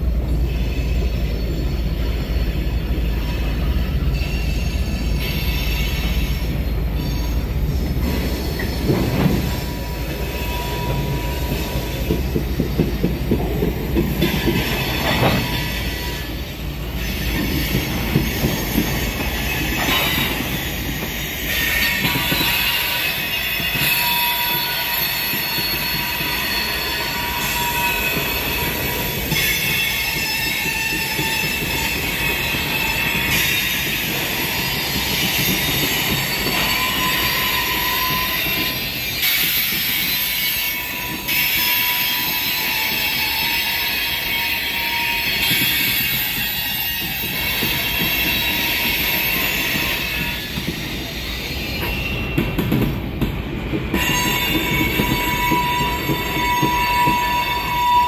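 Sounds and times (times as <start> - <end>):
train wheels rumbling over rails: 0.0 - 58.0
high wheel squeal: 0.2 - 52.7, 53.9 - 58.0.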